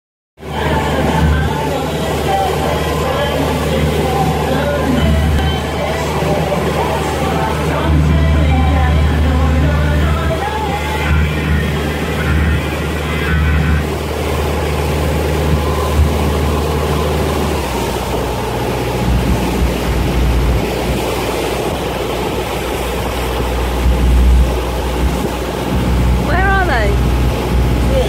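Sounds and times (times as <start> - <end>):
boat engine drone: 0.4 - 28.0
water rushing along hull: 0.4 - 28.0
wind: 0.4 - 28.0.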